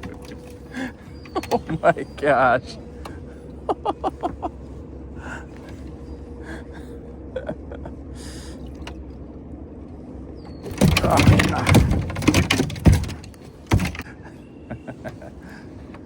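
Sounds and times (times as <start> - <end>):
rumble of moving water: 0.0 - 14.2.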